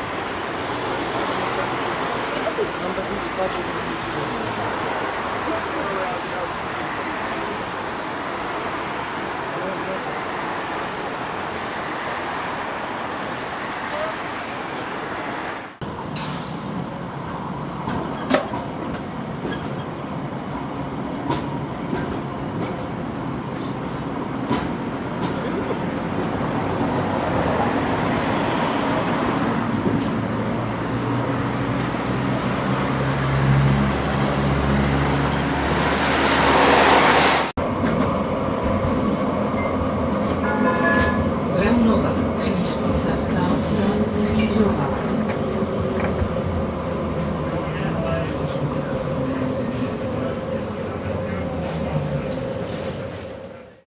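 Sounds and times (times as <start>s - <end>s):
tram running: 0.0s - 53.8s.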